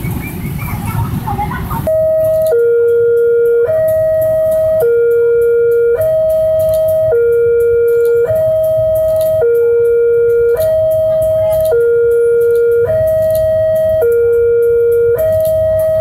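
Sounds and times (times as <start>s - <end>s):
level crossing two-tone alarm: 1.9s - 16.0s.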